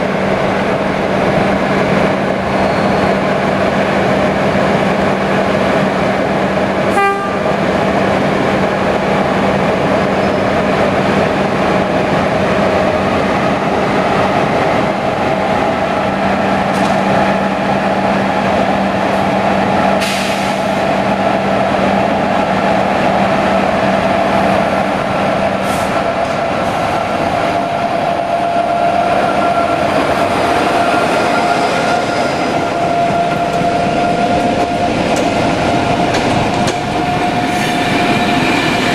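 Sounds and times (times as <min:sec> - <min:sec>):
train mechanical drone: 0:00.0 - 0:38.9.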